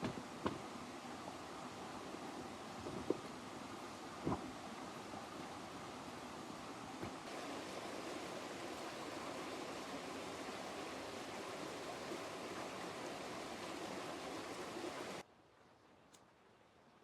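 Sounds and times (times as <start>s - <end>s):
rushing water: 0.0s - 15.3s.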